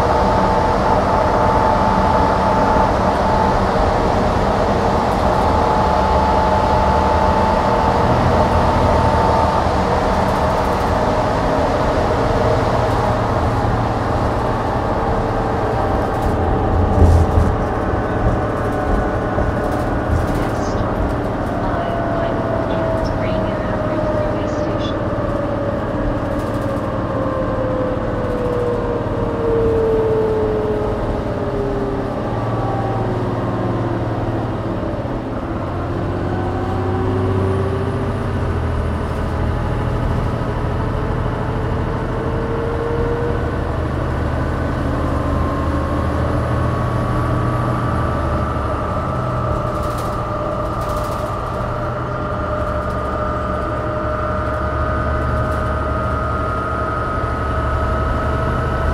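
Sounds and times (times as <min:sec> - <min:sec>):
bus drive whine: 0:00.0 - 0:58.9
bus engine low drone: 0:00.0 - 0:58.9.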